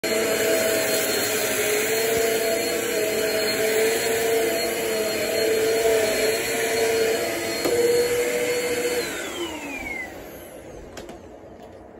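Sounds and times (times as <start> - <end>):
vacuum cleaner running on carpet: 0.0 - 11.0.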